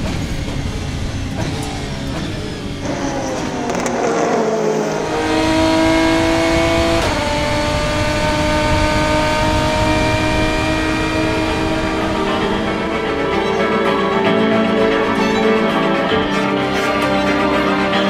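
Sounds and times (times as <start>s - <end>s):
racing engine at full throttle: 0.0s - 18.0s.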